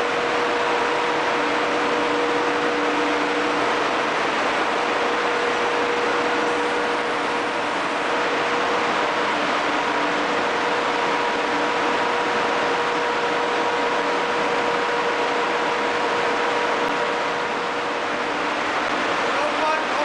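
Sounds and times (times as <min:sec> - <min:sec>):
constant humming tone: 0:00.0 - 0:20.0
engine-room machinery din: 0:00.0 - 0:20.0.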